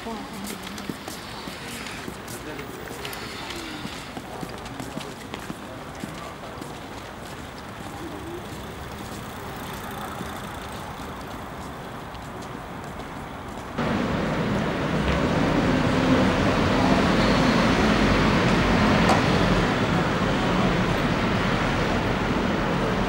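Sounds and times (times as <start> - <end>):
distant traffic: 0.0 - 23.0
louder traffic noise: 0.0 - 23.0.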